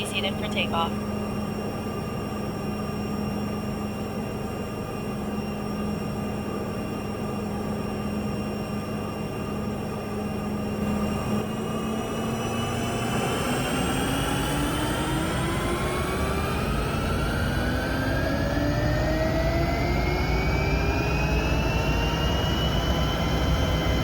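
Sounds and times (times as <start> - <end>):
jet engine hum in cabin: 0.0 - 24.0.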